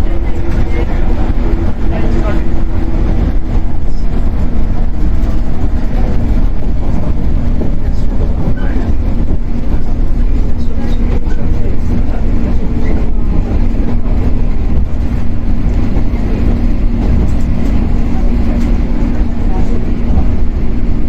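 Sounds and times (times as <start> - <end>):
constant low hum: 0.0 - 21.0
train wheels rumbling on rails: 0.0 - 21.0.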